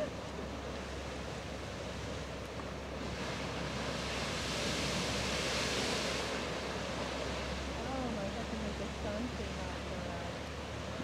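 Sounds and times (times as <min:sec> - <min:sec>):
geyser rush of water and steam: 0:00.0 - 0:11.0.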